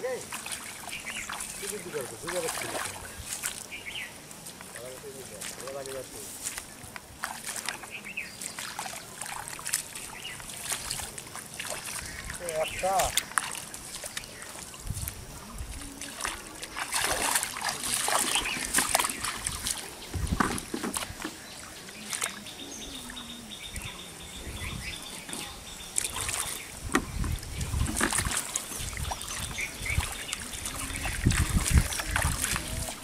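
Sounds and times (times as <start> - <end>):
feet wading through water: 0.0 - 33.0
trickling water: 0.0 - 33.0.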